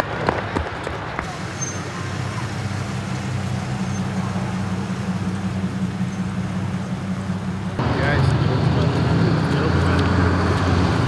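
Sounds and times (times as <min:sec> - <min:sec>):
faint road noise: 0:00.0 - 0:11.0
vehicle engine humming: 0:00.0 - 0:11.0.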